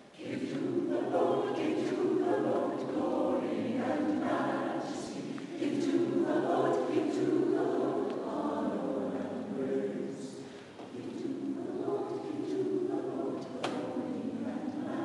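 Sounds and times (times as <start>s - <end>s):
mixed choir singing in harmony: 0.0s - 15.0s.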